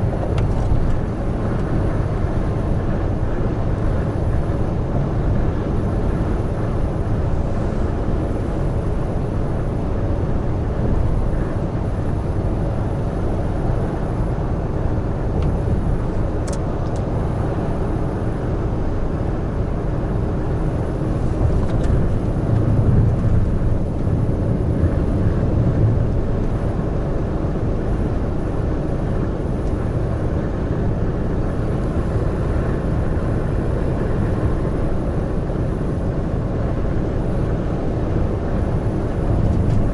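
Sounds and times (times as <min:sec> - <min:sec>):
truck engine and tyre rumble: 0:00.0 - 0:39.9.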